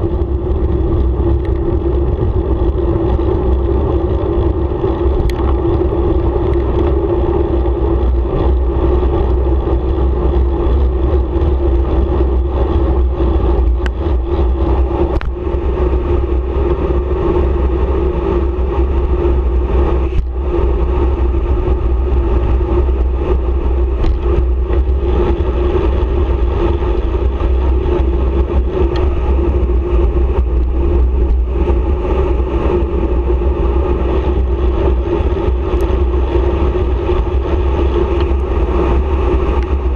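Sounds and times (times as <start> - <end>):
clicks from road bumps: 0.0 - 36.2, 36.8 - 39.9
tyres humming on asphalt: 0.0 - 39.9
wind rushing over microphone: 0.0 - 39.9.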